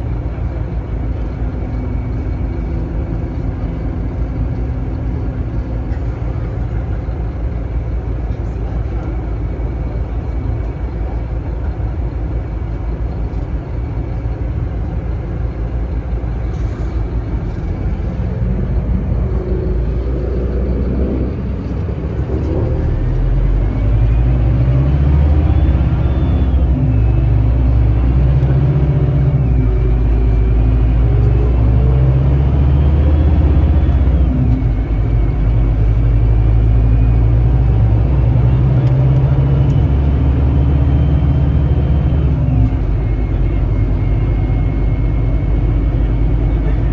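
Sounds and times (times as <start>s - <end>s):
bus diesel engine running: 0.0s - 46.9s
gearbox whine: 8.6s - 46.9s.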